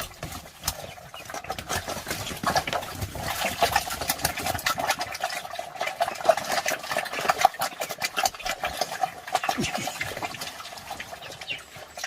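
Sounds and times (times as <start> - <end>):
pigs chewing and smacking: 0.0 - 12.0.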